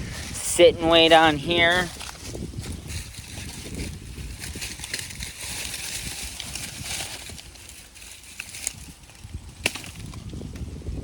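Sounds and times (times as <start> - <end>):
footsteps crunching on corn stubble: 0.0 - 10.7.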